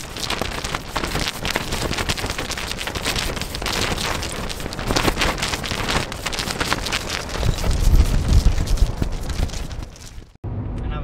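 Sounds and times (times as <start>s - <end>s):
rain pattering: 0.0s - 10.4s.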